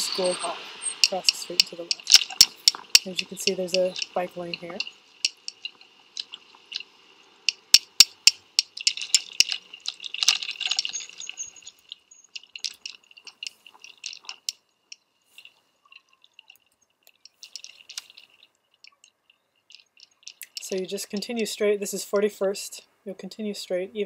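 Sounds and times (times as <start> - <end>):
thin steady high tone: 0.0 - 21.4
bicycle clicks and ticks: 0.0 - 22.3.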